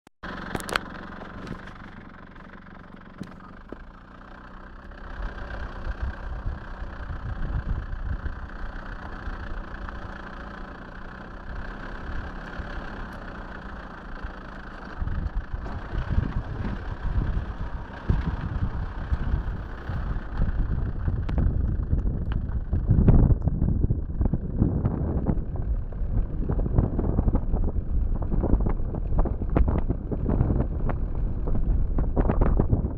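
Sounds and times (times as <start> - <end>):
car engine running: 0.2 - 32.9.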